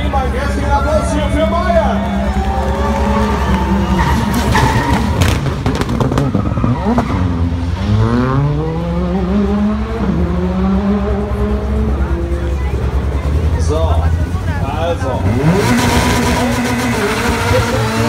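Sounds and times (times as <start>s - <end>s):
engine cracking sharply: 0.0s - 8.5s, 11.8s - 18.0s
rally car engine accelerating: 0.0s - 18.0s.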